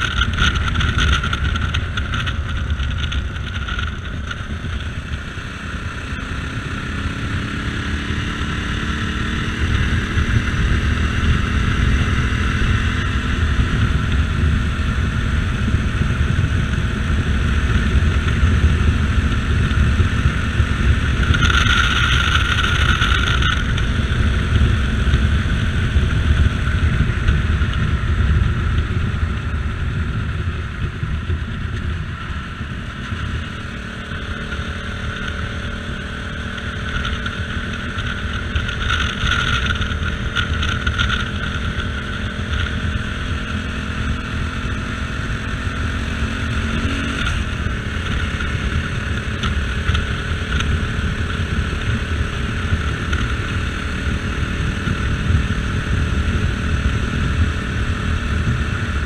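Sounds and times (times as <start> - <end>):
motorcycle engine: 0.0 - 59.0
wind rush on microphone: 0.0 - 59.0.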